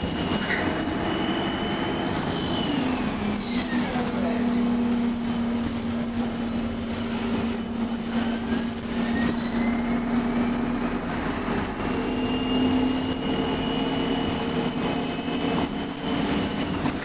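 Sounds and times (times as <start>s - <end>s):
bus engine running: 0.0s - 17.0s
turbocharger whine: 0.0s - 17.0s.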